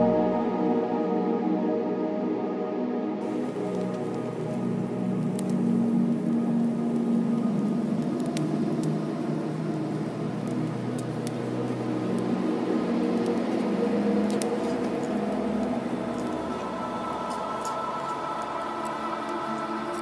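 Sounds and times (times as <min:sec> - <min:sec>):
ambient music with held tones: 0:00.0 - 0:20.0.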